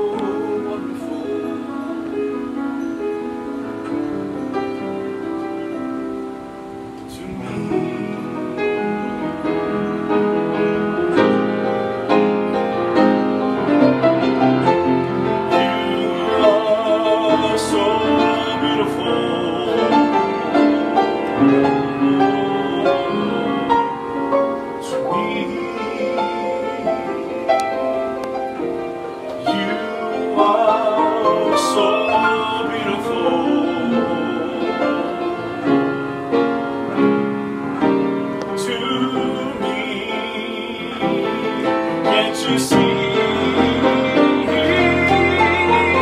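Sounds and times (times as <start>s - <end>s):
slow piano ballad: 0.0s - 46.0s.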